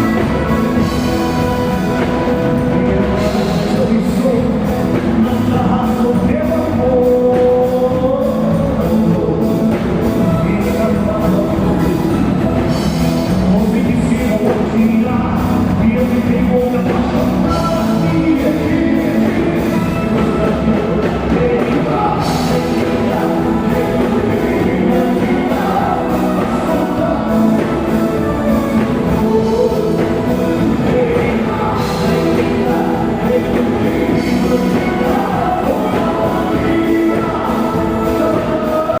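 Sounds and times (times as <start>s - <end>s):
live band with singing: 0.0s - 39.0s.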